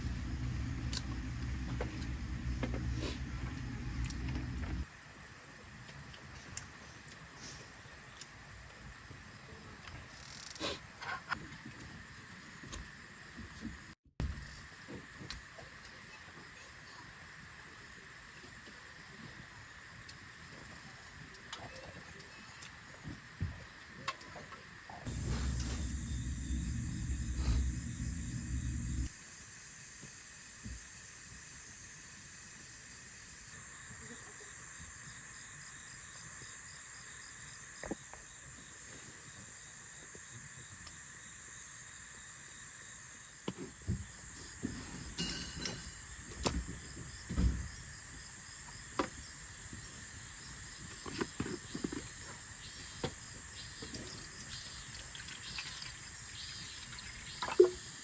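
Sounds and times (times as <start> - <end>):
insects chirping: 0.0 - 13.6, 14.2 - 58.0.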